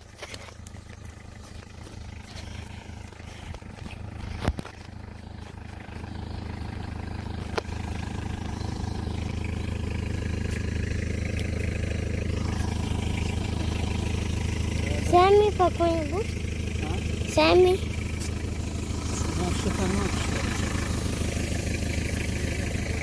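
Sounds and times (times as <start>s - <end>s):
jeep engine running: 0.0s - 23.0s.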